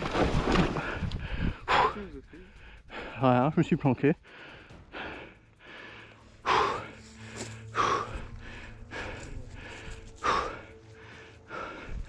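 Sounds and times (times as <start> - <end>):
person breathing heavily: 0.6 - 3.2, 4.2 - 12.0
faint low hum: 0.8 - 12.0.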